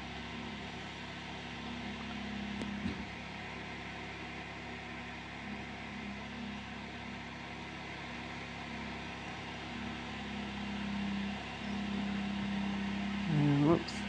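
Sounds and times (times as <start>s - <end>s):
digging equipment engine running: 0.0s - 14.0s.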